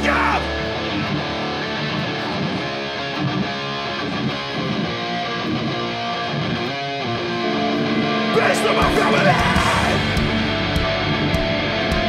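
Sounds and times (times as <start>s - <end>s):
electric guitar strumming chords: 0.0s - 12.0s
hardcore band playing live: 0.0s - 12.0s.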